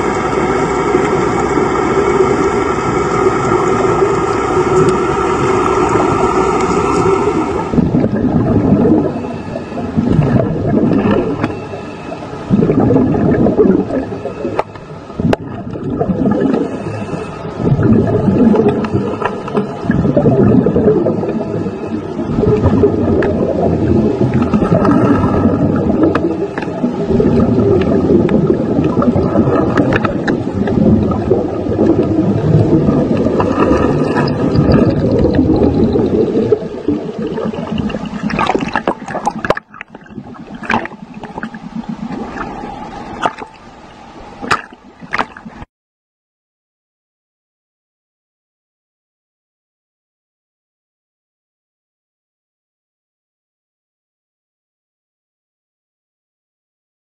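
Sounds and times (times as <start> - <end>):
faint steady whine: 0.0 - 45.7
underwater rumble of moving water: 0.0 - 45.7.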